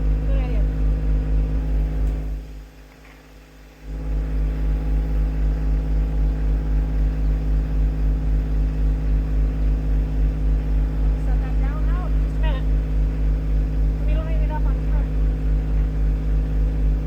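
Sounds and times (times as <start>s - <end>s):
tractor engine idling: 0.0s - 2.4s, 4.2s - 17.0s.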